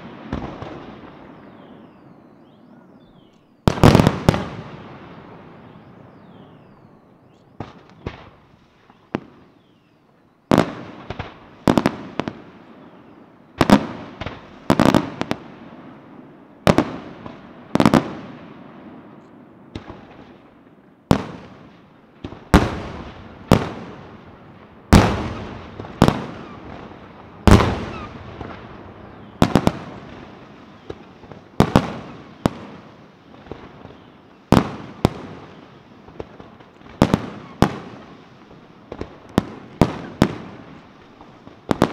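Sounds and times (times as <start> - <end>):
fireworks bangs with echo: 0.0 - 41.9.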